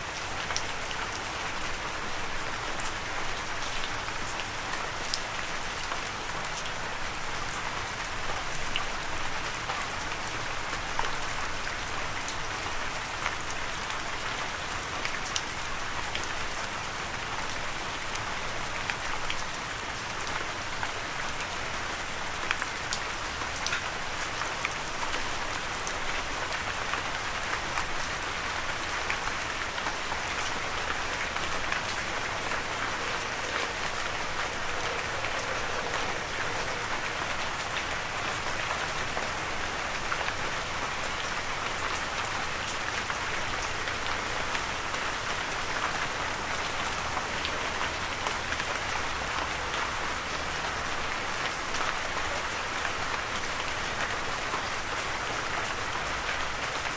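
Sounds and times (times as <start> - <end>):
rain falling on a surface: 0.0 - 56.9.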